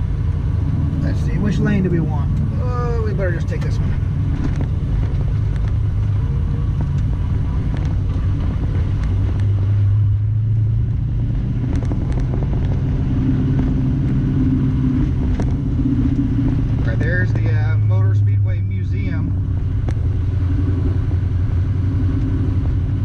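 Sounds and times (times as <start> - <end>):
car engine low drone: 0.0 - 23.0.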